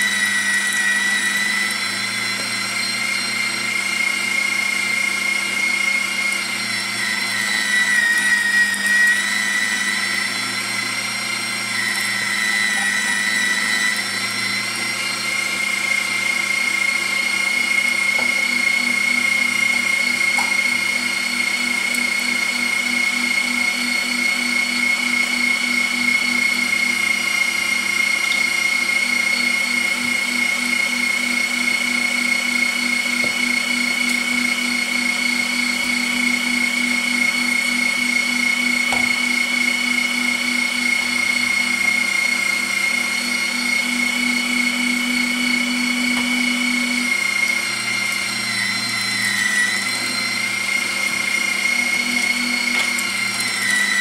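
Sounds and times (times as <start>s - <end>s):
electric meat mincer whining: 0.0s - 54.0s.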